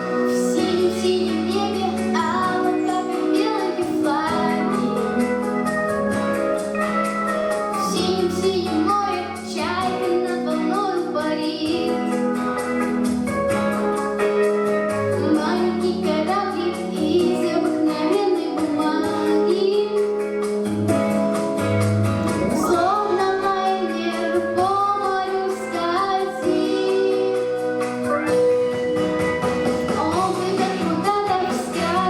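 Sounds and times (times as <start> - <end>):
girl singing: 0.0 - 20.6, 22.3 - 28.6, 29.7 - 32.0
instrumental accompaniment: 0.0 - 32.0.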